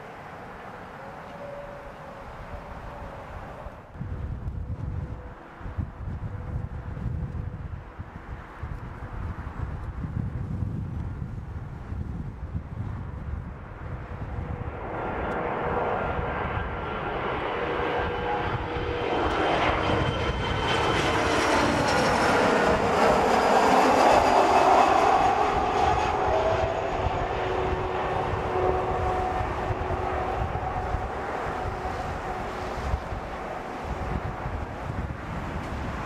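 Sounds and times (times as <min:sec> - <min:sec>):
jet aircraft passing overhead: 0:00.0 - 0:36.0.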